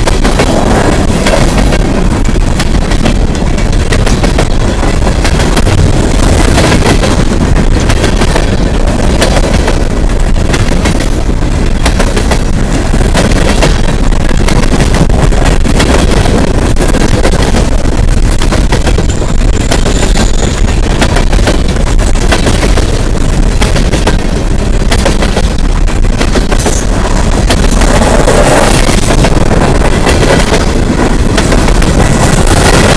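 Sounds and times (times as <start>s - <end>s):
steel wheels rumbling on rail: 0.0s - 32.9s.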